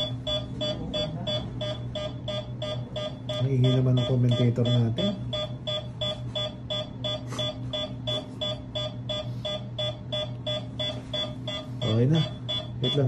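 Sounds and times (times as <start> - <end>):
short electronic beeps: 0.0 - 13.0
steady low hum: 0.0 - 13.0.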